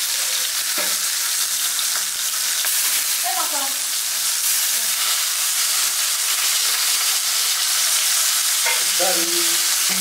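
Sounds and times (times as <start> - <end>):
fish frying in hot oil: 0.0 - 10.0.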